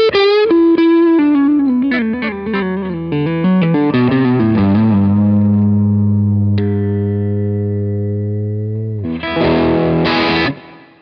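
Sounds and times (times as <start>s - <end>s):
overdriven electric guitar lead: 0.0s - 11.0s.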